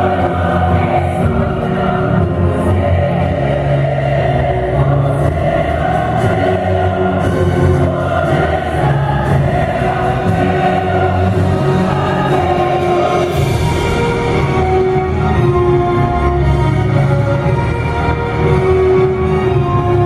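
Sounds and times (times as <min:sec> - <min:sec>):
choir singing: 0:00.0 - 0:20.0
orchestral backing: 0:00.0 - 0:20.0.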